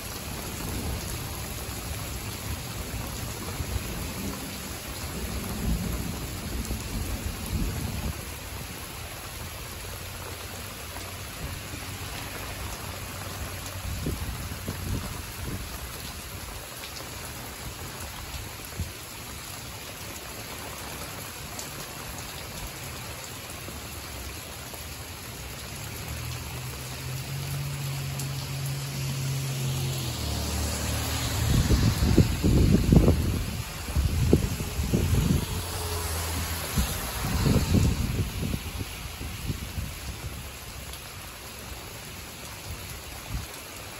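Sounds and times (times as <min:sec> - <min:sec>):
rain falling on plants: 0:00.0 - 0:43.9.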